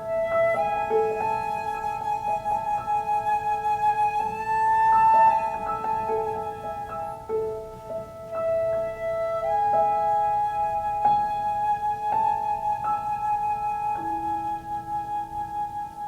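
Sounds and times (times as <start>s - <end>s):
flute: 0.0s - 16.0s
piano chords: 0.0s - 16.0s.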